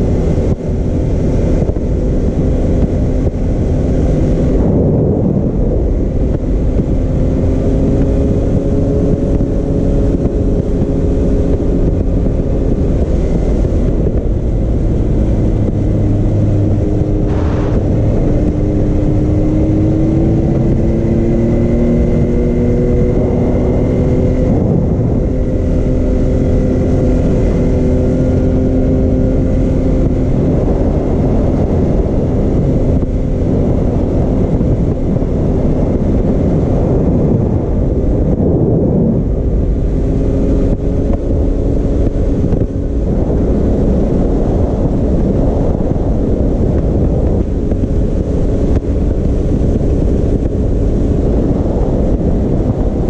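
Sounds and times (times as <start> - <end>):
low rumble of moving vehicle: 0.0 - 53.0
vehicle engine cruising: 0.0 - 53.0.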